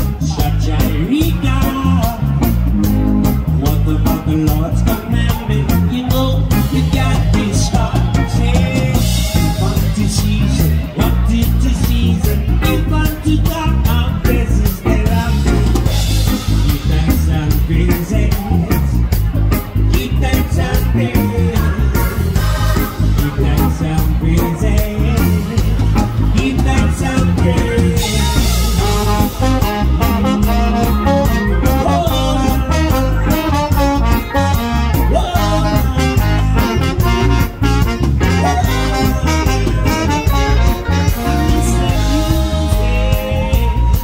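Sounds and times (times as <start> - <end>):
lead singer: 0.0 - 44.0
live reggae band playing: 0.0 - 44.0
trombone and saxophone: 0.0 - 44.0.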